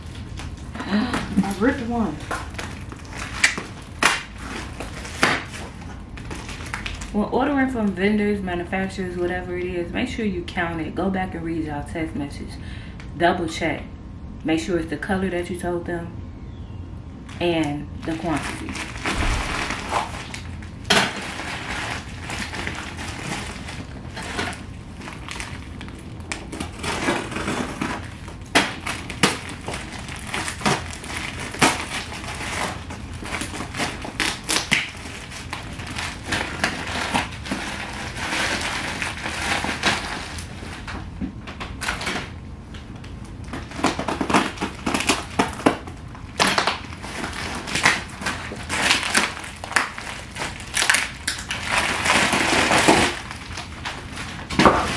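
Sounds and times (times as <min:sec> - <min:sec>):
package wrapping tearing and rustling: 0:00.0 - 0:07.2, 0:18.0 - 0:54.9.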